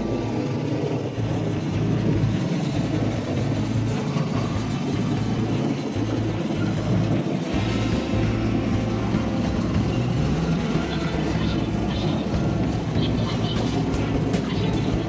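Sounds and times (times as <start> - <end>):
low motor hum: 0.0 - 15.0
train wheels rumbling on rail: 0.0 - 15.0.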